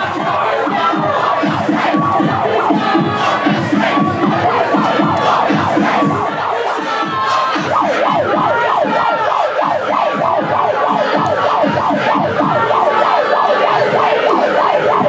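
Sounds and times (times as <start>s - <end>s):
siren yelping: 0.0s - 15.0s.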